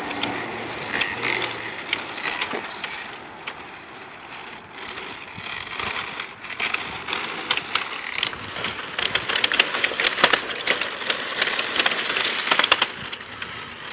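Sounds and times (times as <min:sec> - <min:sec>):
plastic parts clicking and rattling: 0:00.0 - 0:13.9
rc vehicle drivetrain whirring: 0:00.0 - 0:13.9.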